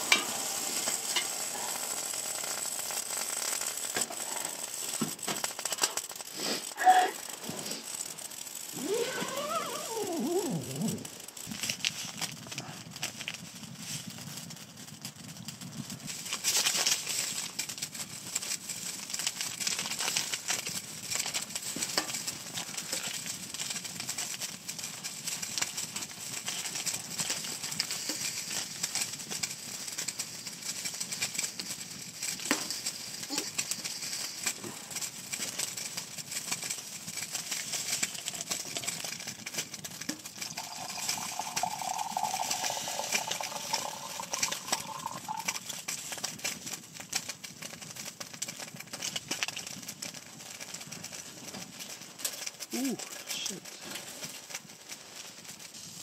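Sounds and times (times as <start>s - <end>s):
foil sachet crinkling: 0.0s - 56.0s
steady hiss with crackles: 0.0s - 56.0s.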